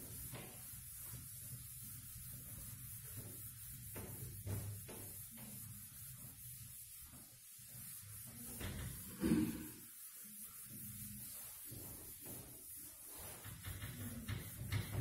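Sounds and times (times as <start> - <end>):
marker strokes on whiteboard: 0.0 - 15.0.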